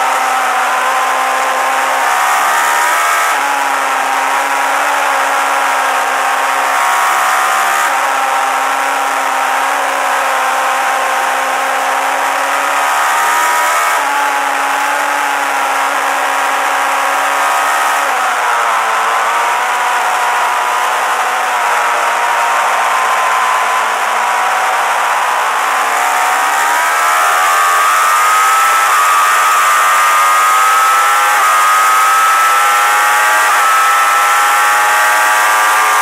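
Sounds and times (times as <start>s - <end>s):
motorcycle engine at high revs: 0.0s - 36.0s.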